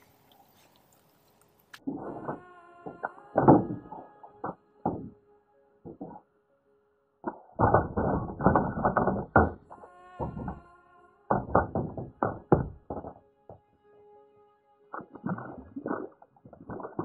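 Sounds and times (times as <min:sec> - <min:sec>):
faint steady tones: 0:00.0 - 0:17.0.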